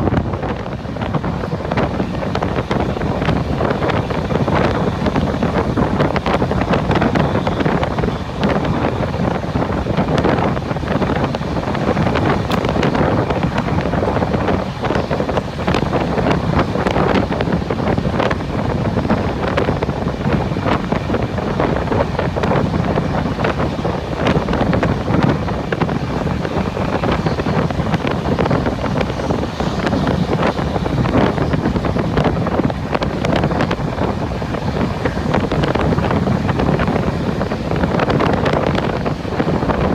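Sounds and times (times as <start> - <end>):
train rumbling at speed: 0.0 - 39.9
wind buffeting microphone: 0.0 - 39.9.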